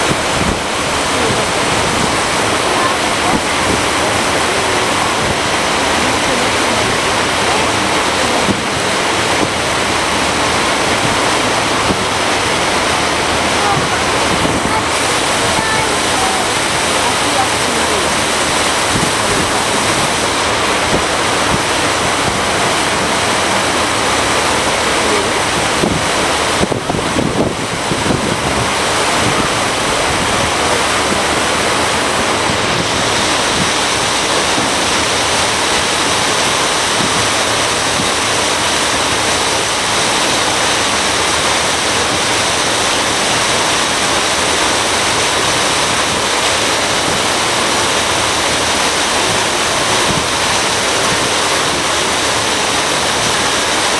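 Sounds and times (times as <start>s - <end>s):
wind and water rushing: 0.0s - 53.9s.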